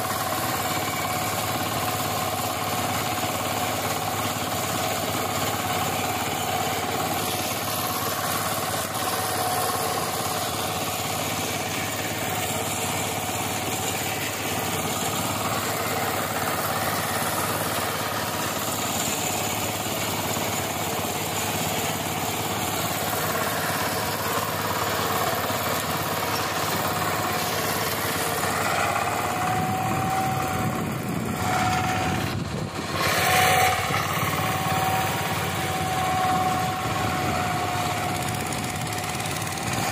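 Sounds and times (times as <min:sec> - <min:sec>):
diesel tiller engine running: 0:00.0 - 0:39.9.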